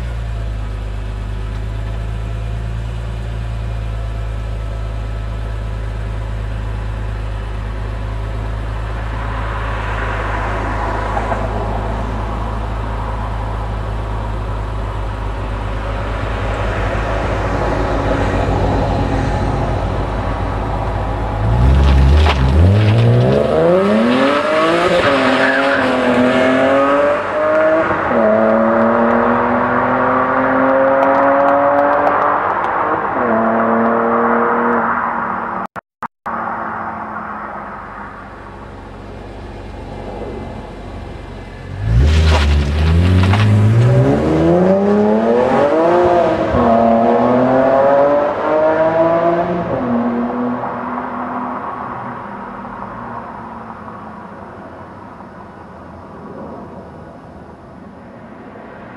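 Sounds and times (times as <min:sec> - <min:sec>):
car engine accelerating hard: 0:00.0 - 0:35.1, 0:38.5 - 0:53.7.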